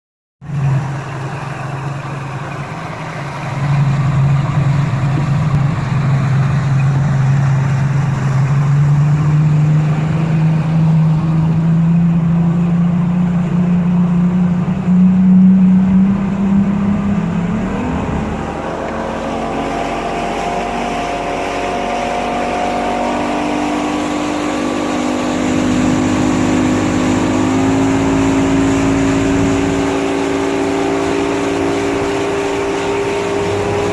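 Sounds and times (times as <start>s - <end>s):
boat engine running: 0.4s - 33.9s
rush of wind and water: 0.4s - 33.9s.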